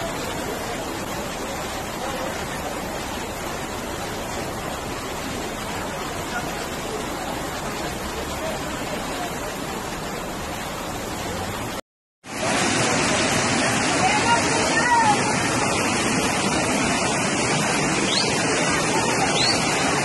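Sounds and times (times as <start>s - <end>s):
water rushing down a street: 0.0s - 20.0s.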